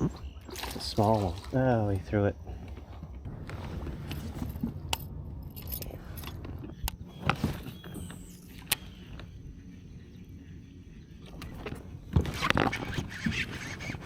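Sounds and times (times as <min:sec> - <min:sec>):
low rumble of water: 0:00.0 - 0:14.0.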